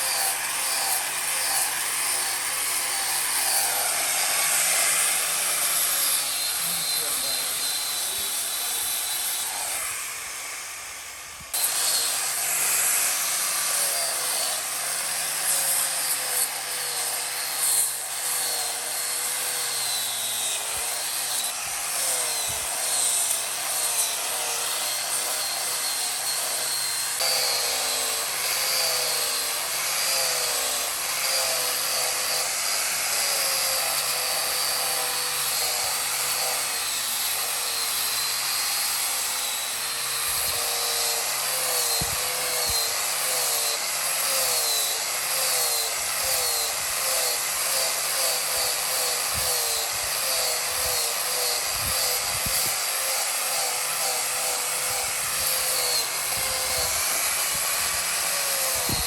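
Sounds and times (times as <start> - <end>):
power tool motor whining on wood: 0.0 - 59.0.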